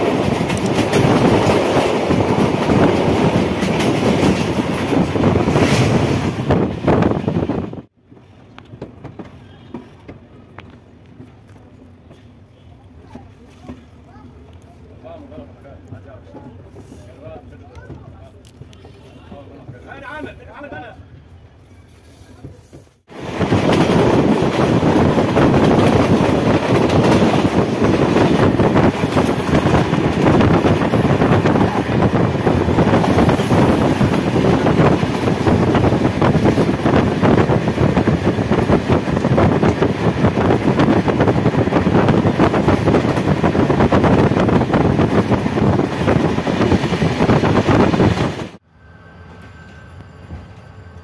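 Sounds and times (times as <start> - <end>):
train wheels on rails: 0.0 - 20.4, 21.3 - 51.0.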